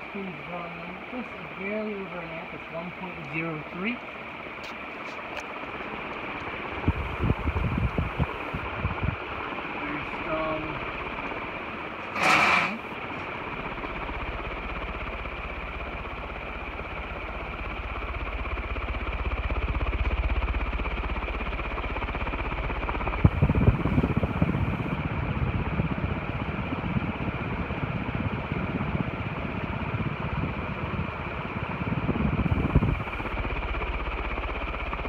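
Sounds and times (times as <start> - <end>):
ceiling fan humming: 0.0 - 35.0
wind buffeting microphone: 5.2 - 12.0, 12.8 - 35.0.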